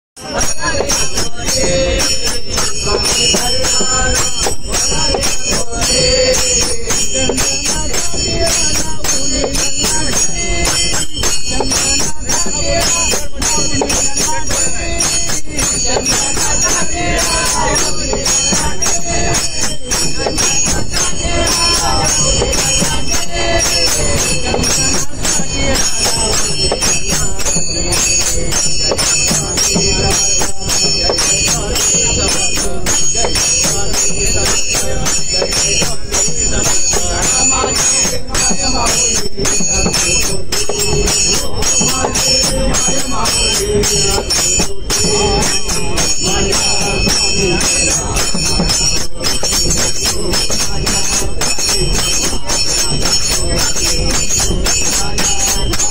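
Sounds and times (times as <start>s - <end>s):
group of men singing: 0.2s - 55.9s
hand cymbals clashing: 0.2s - 55.9s.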